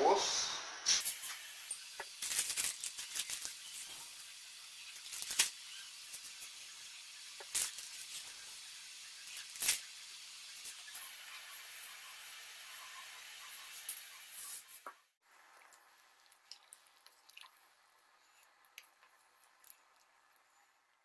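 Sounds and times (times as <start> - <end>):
liquid sizzling in hot pot: 0.8 - 21.0.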